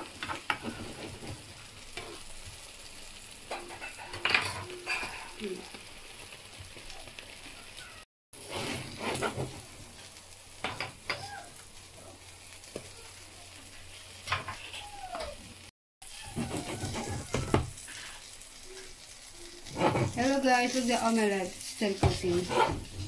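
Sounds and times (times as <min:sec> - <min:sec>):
omelette sizzling in oil: 0:00.0 - 0:23.0.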